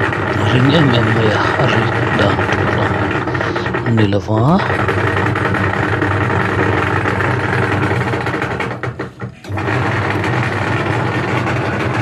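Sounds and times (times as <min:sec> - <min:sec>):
washing machine motor rumble: 0:00.0 - 0:12.0.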